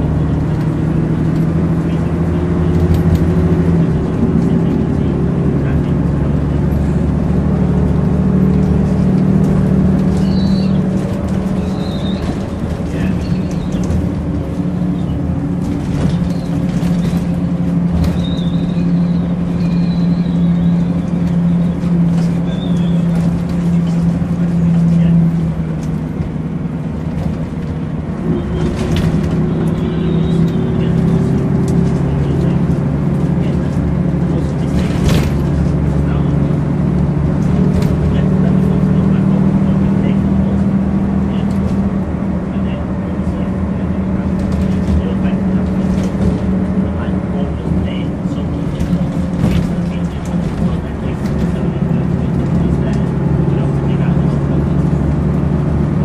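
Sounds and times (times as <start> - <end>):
bus body rattles and squeaks: 0.0 - 56.0
bus diesel engine running: 0.0 - 56.0.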